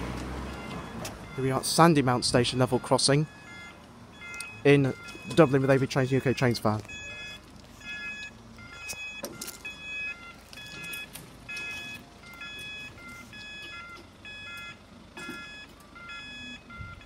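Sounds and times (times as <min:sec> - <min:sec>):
level crossing alarm tones: 0:00.4 - 0:17.0.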